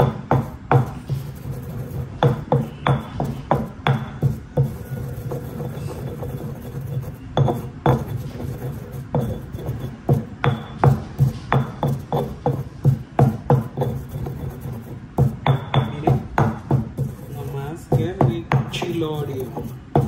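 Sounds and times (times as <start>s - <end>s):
stone pestle pounding: 0.0s - 20.0s
stone scraping on stone: 0.0s - 20.0s.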